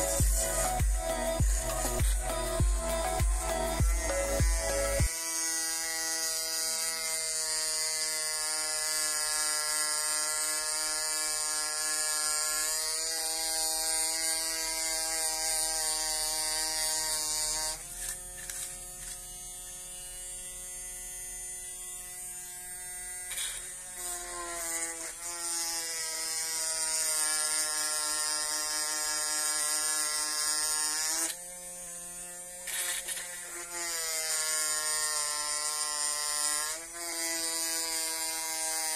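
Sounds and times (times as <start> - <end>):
mini drill motor whining: 0.0 - 38.9.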